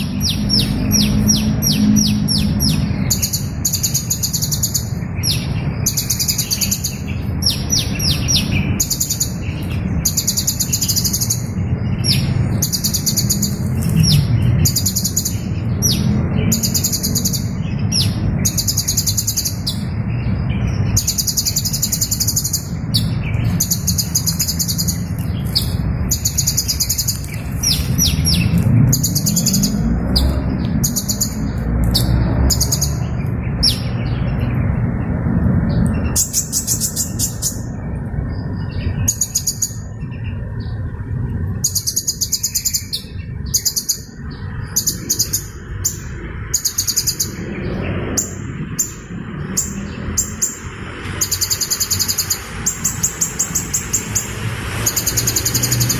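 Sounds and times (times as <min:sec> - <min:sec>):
small bird chirping: 0:00.0 - 0:55.9.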